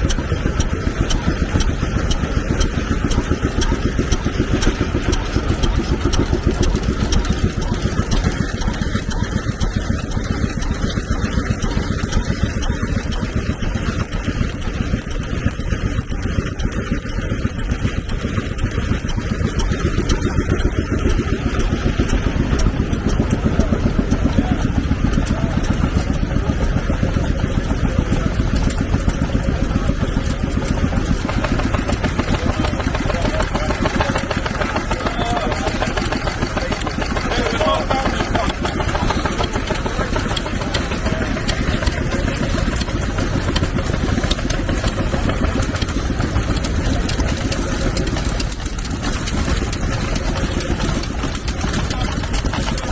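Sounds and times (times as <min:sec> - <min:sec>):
stationary engine running: 0:00.0 - 0:52.9.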